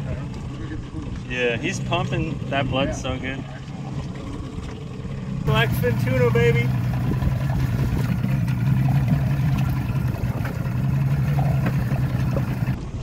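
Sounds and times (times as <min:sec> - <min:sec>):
outboard motor humming: 0:00.0 - 0:13.0.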